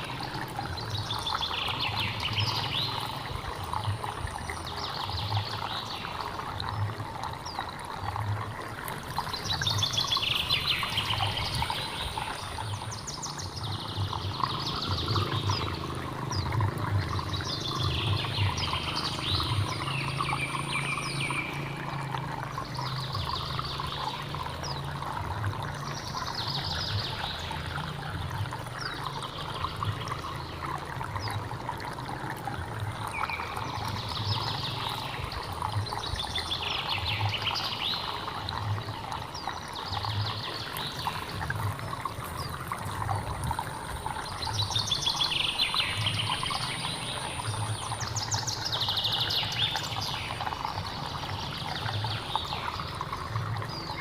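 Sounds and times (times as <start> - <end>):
hill stream flowing: 0.0 - 54.0.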